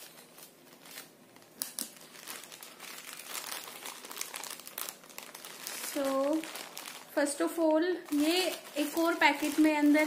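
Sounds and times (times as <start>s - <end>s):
plastic mailer crinkling: 0.0s - 10.0s.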